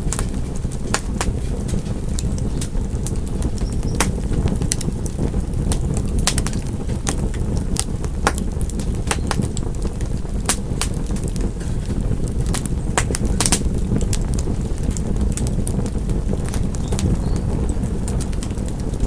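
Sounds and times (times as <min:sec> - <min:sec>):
low rumble of burning fire: 0:00.0 - 0:19.0
wood fire snaps: 0:00.0 - 0:19.0.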